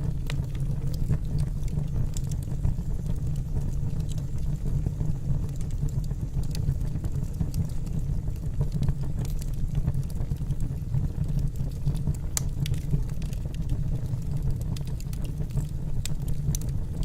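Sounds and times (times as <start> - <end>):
fireplace flames rumbling: 0.0 - 17.0
wood crackling and popping: 0.0 - 17.0.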